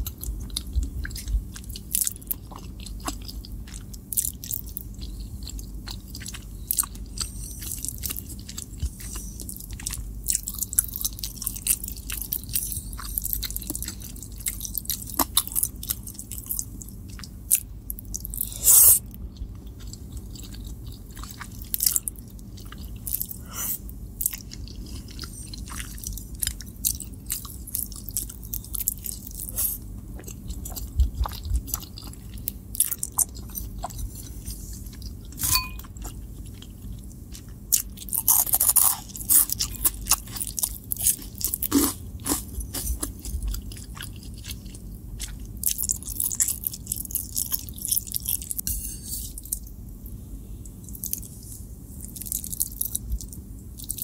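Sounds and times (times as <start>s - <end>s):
crunching of snack being bitten: 0.0s - 49.7s, 50.8s - 54.0s
chewing food: 0.0s - 54.0s.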